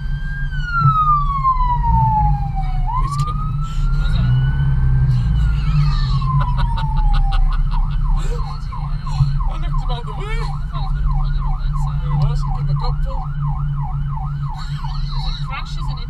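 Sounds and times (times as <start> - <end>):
road and engine rumble: 0.0 - 16.0
siren wailing: 0.0 - 16.0.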